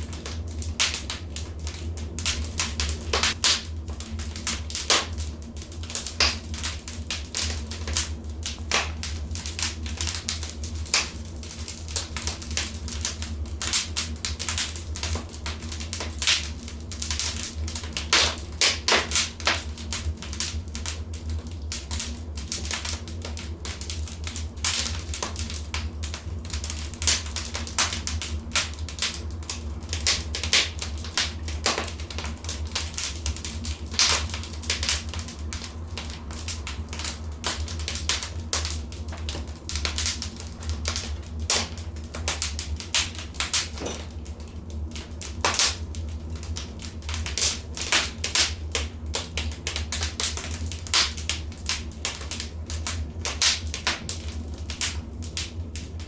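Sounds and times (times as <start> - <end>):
low rumble of burning: 0.0 - 56.0
wood fire crackling: 0.0 - 56.0.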